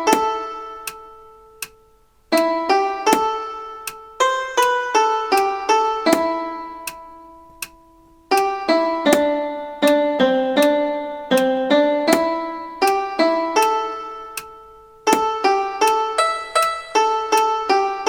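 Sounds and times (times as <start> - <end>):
keyboard melody: 0.0 - 18.0.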